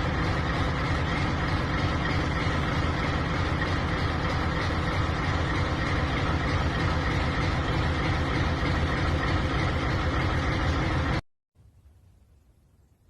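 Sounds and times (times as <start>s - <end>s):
diesel engine clattering: 0.0s - 11.2s.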